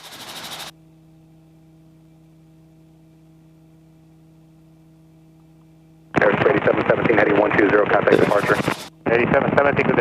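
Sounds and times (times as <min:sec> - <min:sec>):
faint electrical hum: 0:00.7 - 0:10.0.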